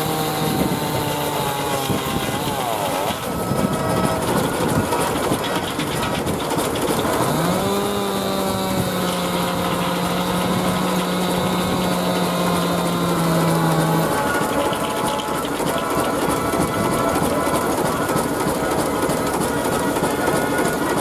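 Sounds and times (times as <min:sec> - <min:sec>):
circular saw humming: 0:00.0 - 0:21.0
steam traction engine: 0:00.0 - 0:21.0.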